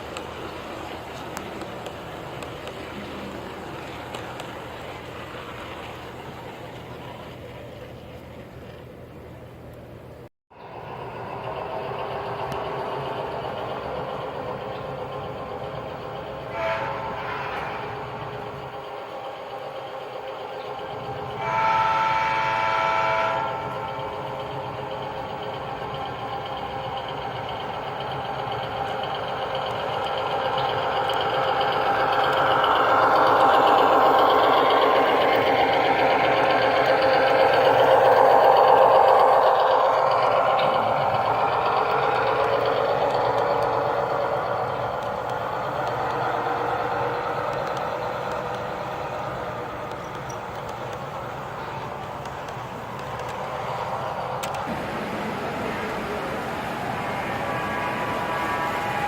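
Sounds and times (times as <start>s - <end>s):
model train running: 0.0s - 59.0s.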